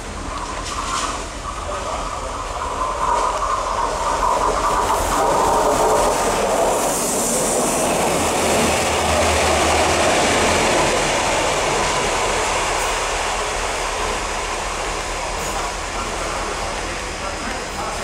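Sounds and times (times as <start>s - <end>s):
diesel locomotive engines: 0.0s - 18.0s
train wheels on rails: 0.0s - 18.0s.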